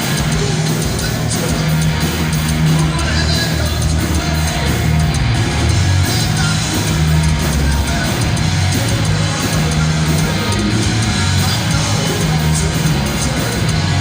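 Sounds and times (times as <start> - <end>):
heavy metal band playing live: 0.0 - 14.0.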